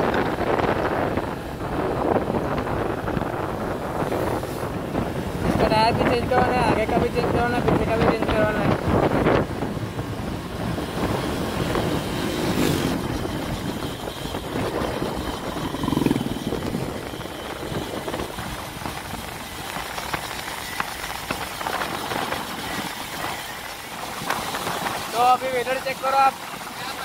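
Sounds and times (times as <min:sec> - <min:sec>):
motorcycle running: 0:00.0 - 0:27.0
scooter engine and tyre noise: 0:00.0 - 0:27.0
wind rush on microphone: 0:00.0 - 0:27.0.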